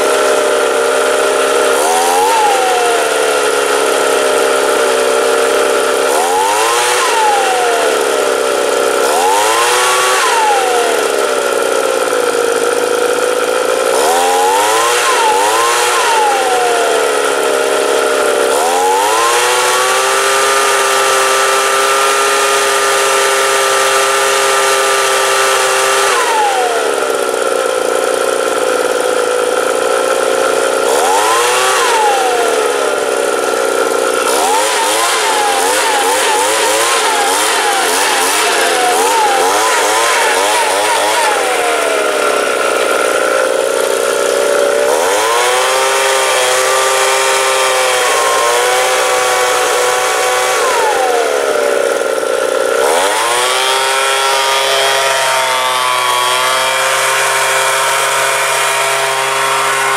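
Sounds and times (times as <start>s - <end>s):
leaf blower engine revving: 0.0s - 59.9s.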